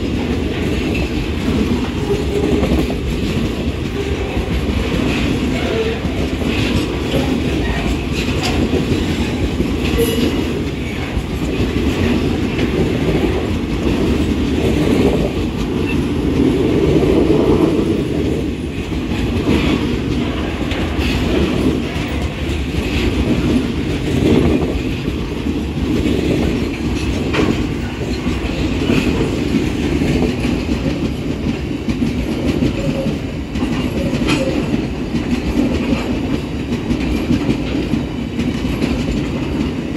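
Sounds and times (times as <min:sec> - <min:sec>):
train wheels rumbling on rail: 0:00.0 - 0:39.9
wheels clanking over rail joints: 0:00.0 - 0:39.9.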